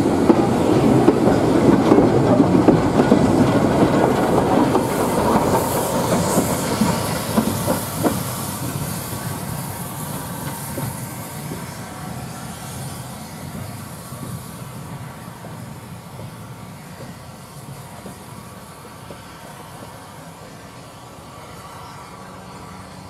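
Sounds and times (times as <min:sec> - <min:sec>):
train wheels clacking over rail joints: 0:00.0 - 0:21.0.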